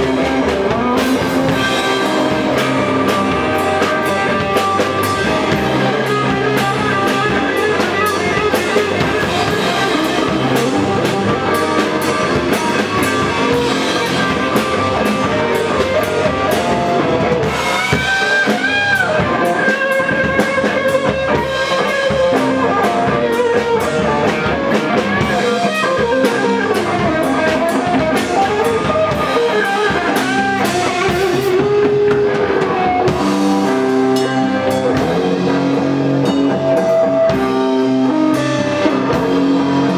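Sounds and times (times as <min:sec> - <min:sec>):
drum kit: 0:00.0 - 0:39.9
electric guitars: 0:00.0 - 0:39.9.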